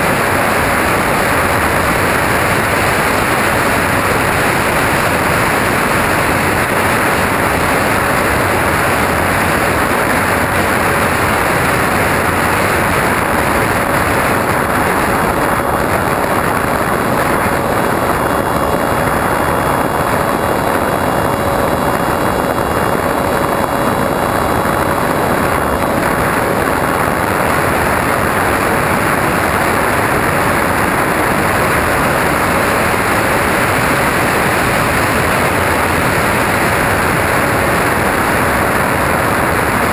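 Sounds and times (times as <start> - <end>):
plane motor and propeller hum: 0.0 - 39.9
wind rushing over camera: 0.0 - 39.9.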